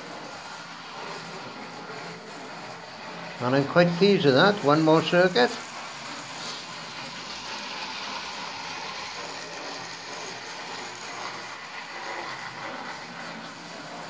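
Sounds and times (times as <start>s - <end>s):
model train motor whirring: 0.0s - 14.0s.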